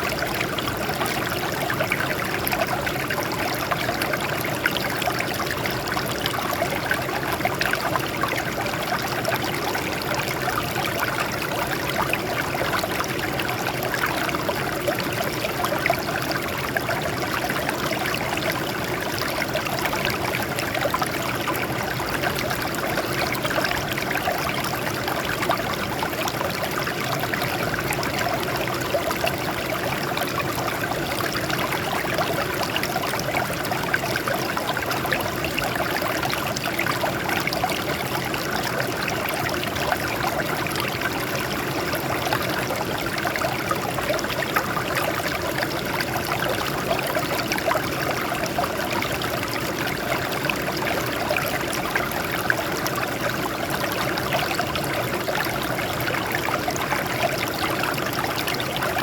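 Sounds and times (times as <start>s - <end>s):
water babbling over rocks: 0.0s - 59.0s.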